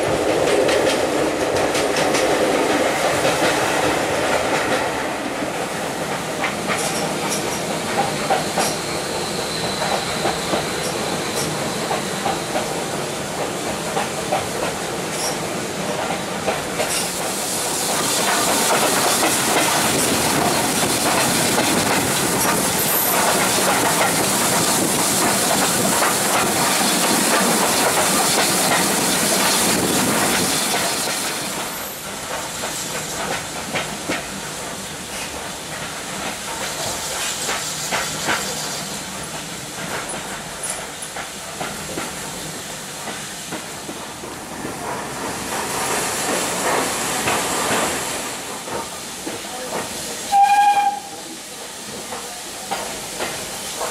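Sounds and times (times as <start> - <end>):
steam hiss: 0.0 - 53.9
train wheels rushing: 0.0 - 53.9.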